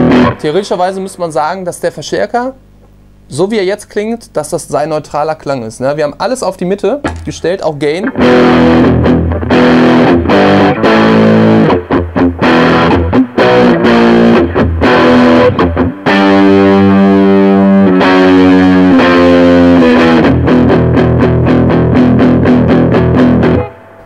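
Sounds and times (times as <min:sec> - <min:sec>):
distorted electric guitar chords: 0:00.0 - 0:03.4, 0:06.8 - 0:24.0.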